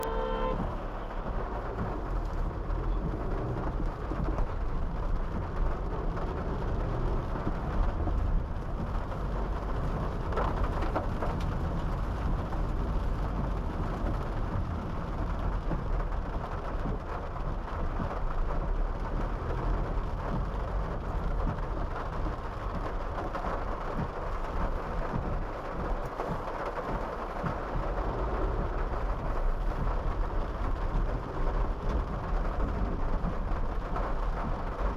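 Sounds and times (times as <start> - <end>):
car driving rumble: 0.0 - 34.9
steady rain: 0.0 - 34.9.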